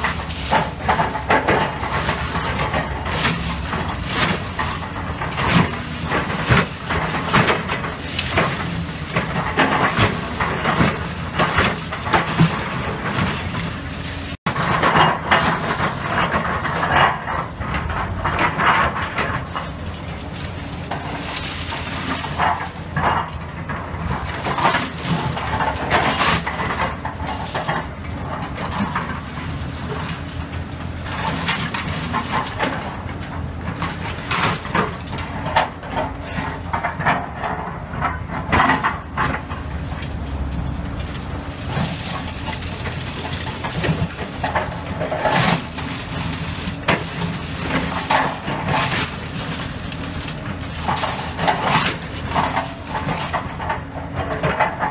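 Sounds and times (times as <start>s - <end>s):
bucket clanking and scraping rubble: 0.0s - 54.9s
diesel engine running: 0.0s - 54.9s.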